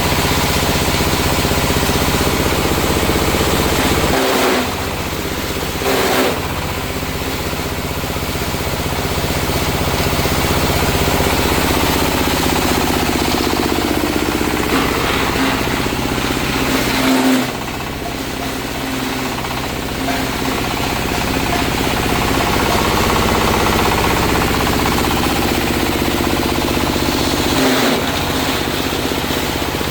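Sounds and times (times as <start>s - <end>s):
coconut husk grinding machine: 0.0s - 29.9s.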